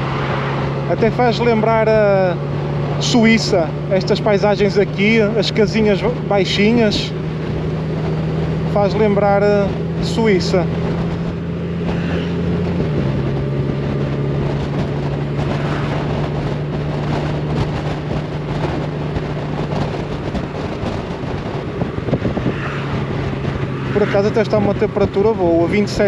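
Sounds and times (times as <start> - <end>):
motorcycle engine cruising: 0.0 - 26.0
wind rushing on microphone: 0.0 - 26.0.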